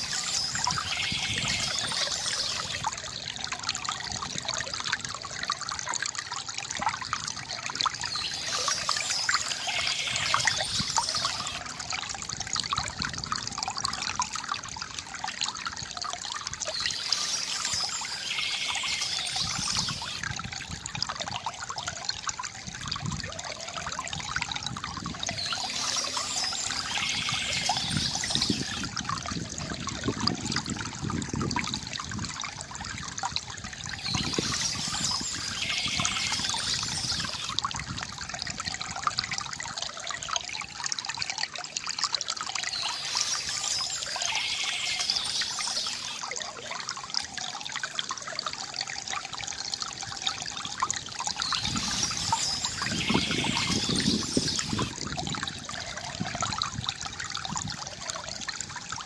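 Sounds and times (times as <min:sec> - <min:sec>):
water trickling into basin: 0:00.0 - 0:59.0.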